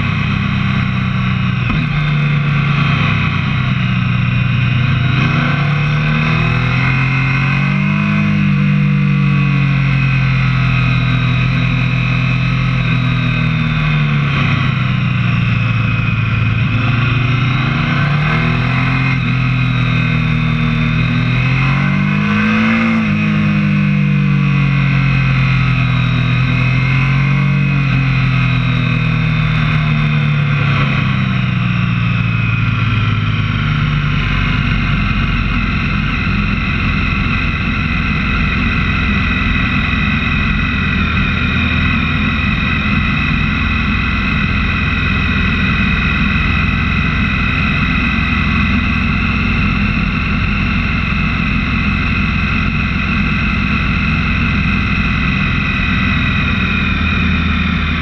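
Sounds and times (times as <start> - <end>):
high whine: 0.0 - 58.0
motorcycle engine: 0.0 - 58.0
wind and road noise: 0.0 - 58.0.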